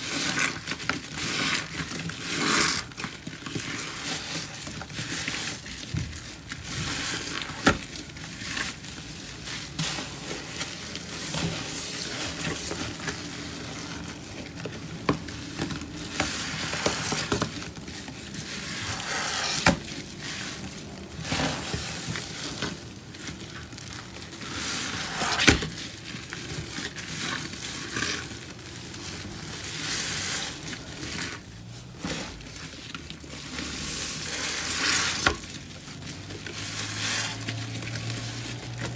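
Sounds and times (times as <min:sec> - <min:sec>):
paste squelching in sponges: 0:00.0 - 0:38.9.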